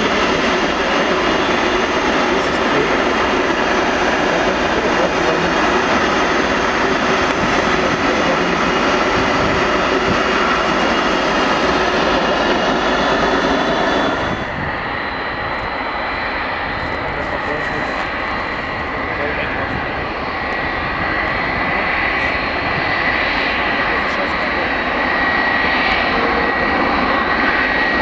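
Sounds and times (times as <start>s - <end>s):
machinery drone: 0.0s - 28.0s.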